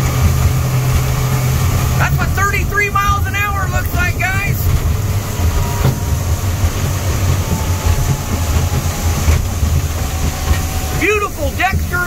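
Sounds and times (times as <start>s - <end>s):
outboard motor rumble: 0.0s - 12.0s
water rushing: 0.0s - 12.0s
wind rushing: 0.0s - 12.0s.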